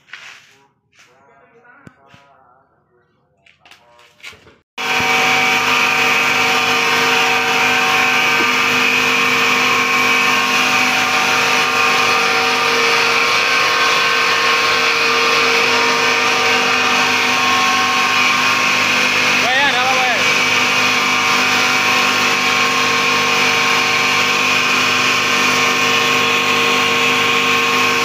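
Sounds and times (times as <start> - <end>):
disk mill whirring: 4.8 - 28.0.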